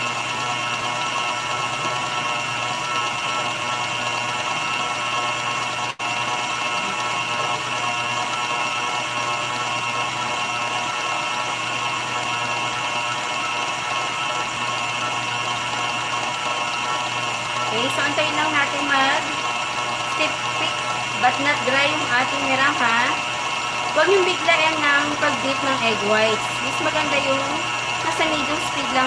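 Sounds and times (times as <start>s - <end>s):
stand mixer motor whirring: 0.0s - 29.0s.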